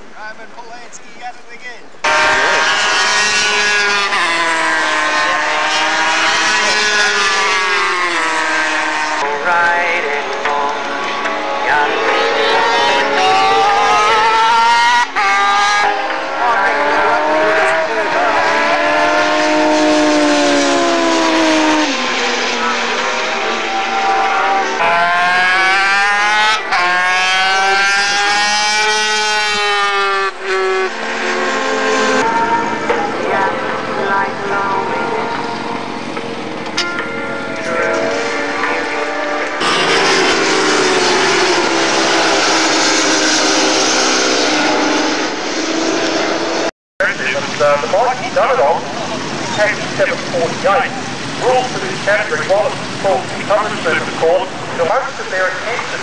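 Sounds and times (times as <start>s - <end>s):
racing motorcycle engines revving: 1.9s - 56.0s.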